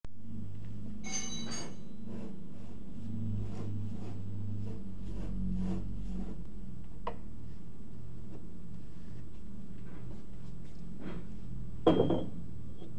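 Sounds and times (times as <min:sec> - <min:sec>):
low mechanical hum: 0:00.1 - 0:12.9.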